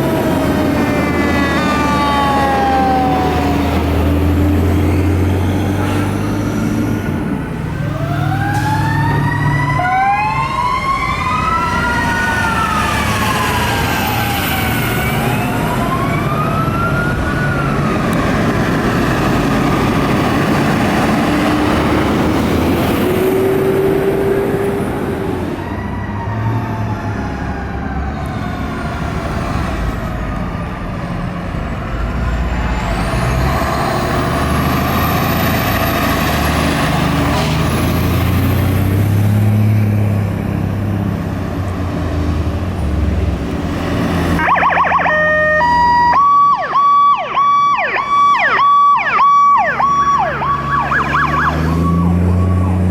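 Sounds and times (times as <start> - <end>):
fire truck sirens wailing: 0.0 - 52.9
heavy trucks running: 0.0 - 52.9.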